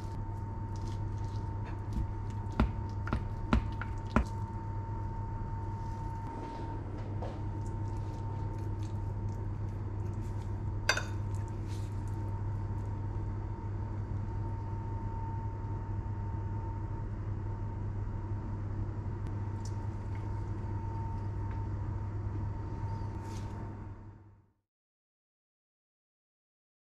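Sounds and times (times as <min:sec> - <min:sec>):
low hum: 0:00.0 - 0:24.4.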